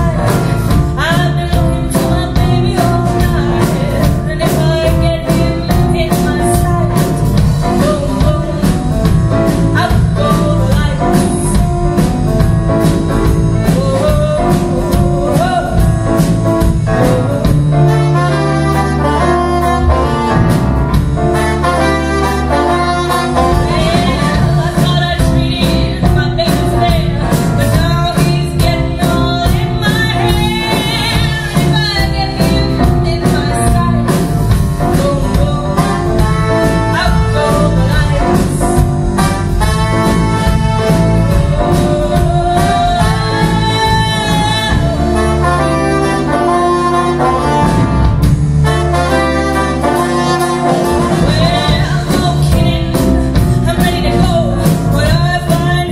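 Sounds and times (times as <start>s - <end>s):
woman singing: 0.0s - 20.2s, 21.6s - 47.8s, 49.8s - 55.9s
folk band with saxophone and brass: 0.0s - 55.9s.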